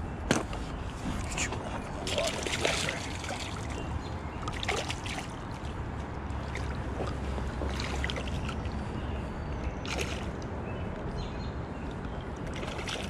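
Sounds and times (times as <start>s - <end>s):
steady low rumble: 0.0s - 13.0s
river water lapping: 0.6s - 13.0s.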